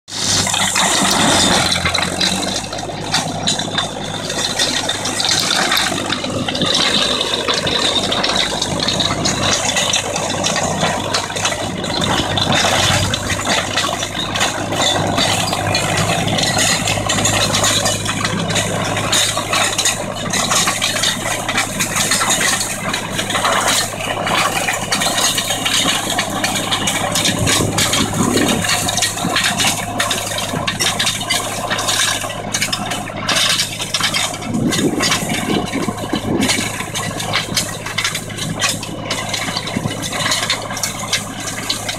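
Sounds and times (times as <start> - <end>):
tractor diesel engine: 0.0 - 41.9
flail mulcher rattling: 0.1 - 41.9.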